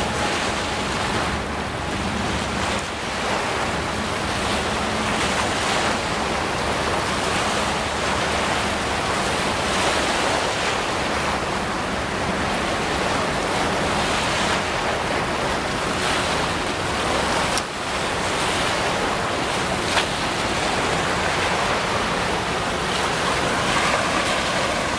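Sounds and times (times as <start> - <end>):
water washing against bank: 0.0 - 24.9.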